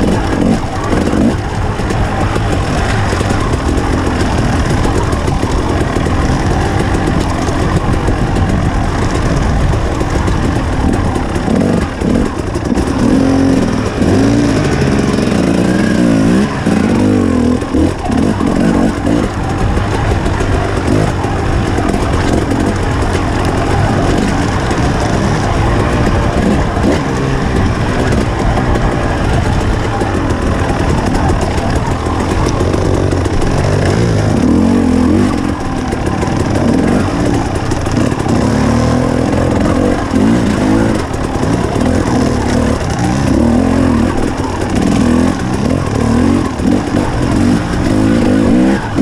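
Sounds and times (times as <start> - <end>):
two-stroke motorcycle engine revving: 0.0 - 49.0.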